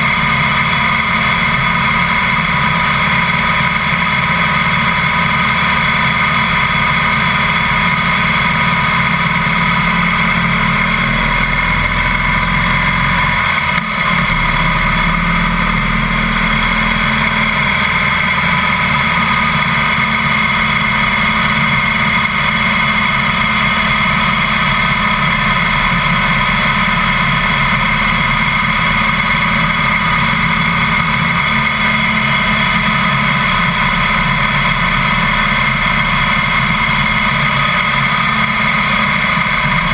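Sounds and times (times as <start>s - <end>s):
motorcycle engine rumble: 0.0s - 39.9s
wind and road noise: 0.0s - 39.9s.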